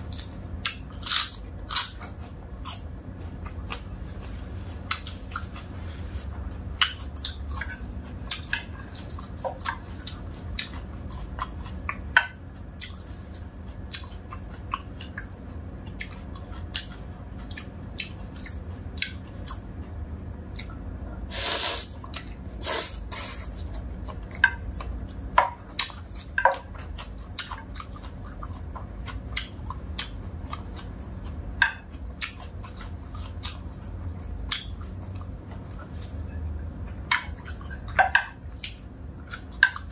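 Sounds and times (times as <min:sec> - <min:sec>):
chewing dry noodles: 0:00.0 - 0:39.9.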